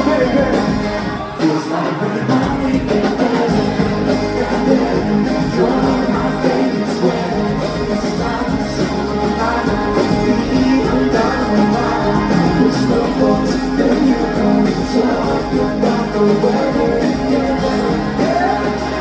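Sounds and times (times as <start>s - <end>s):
bass line: 0.0s - 1.4s, 2.3s - 19.0s
electric guitar: 0.0s - 19.0s
person singing: 0.0s - 19.0s.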